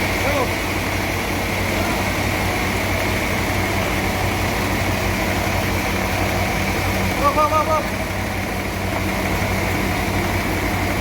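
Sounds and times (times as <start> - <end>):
band sawmill running: 0.0 - 11.0.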